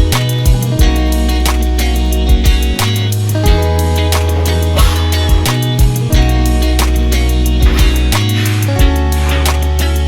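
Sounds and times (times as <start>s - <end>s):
pop song with drum beat: 0.0s - 10.0s.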